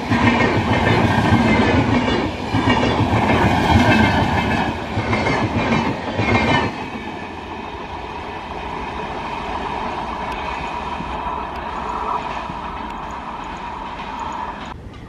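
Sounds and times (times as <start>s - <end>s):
train wheels clattering over joints: 0.0s - 7.8s, 8.7s - 15.0s
train rumble: 0.0s - 15.0s.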